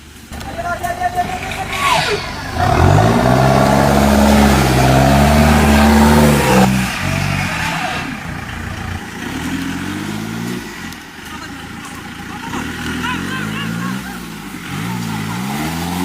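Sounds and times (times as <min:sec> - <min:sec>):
engine revving hard: 0:01.1 - 0:11.0, 0:12.4 - 0:16.0.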